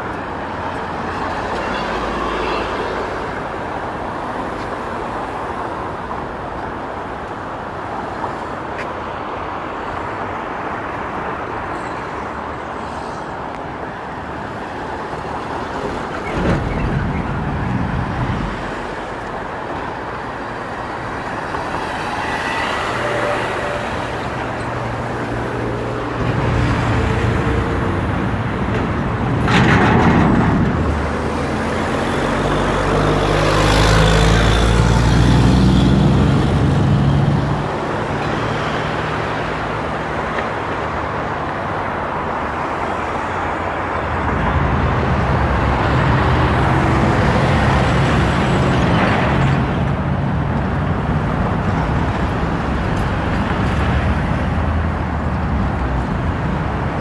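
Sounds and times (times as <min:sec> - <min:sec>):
vehicles driving past: 0:00.0 - 0:57.0.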